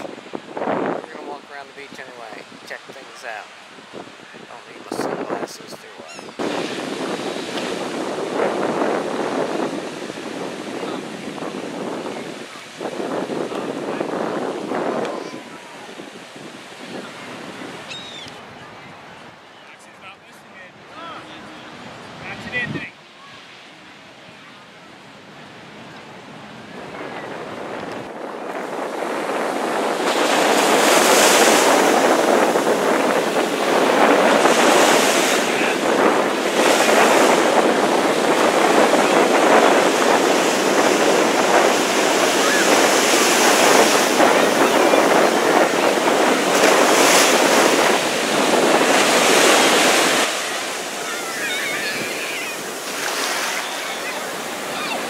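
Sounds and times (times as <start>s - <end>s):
ocean surf breaking: 0.0s - 19.4s, 20.0s - 55.0s
wind buffeting microphone: 0.0s - 19.4s, 25.7s - 55.0s.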